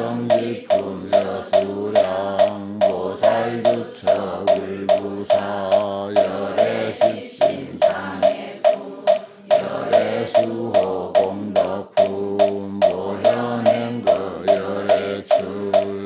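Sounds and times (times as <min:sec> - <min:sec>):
congregation chanting in unison: 0:00.0 - 0:16.0
wooden fish knocks: 0:00.3 - 0:16.0.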